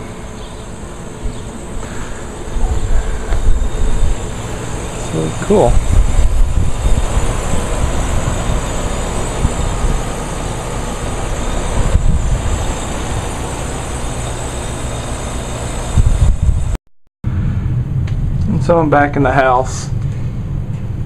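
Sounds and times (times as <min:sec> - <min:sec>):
air conditioner whirring: 0:00.0 - 0:16.8, 0:17.4 - 0:21.0
low rumble: 0:00.0 - 0:21.0.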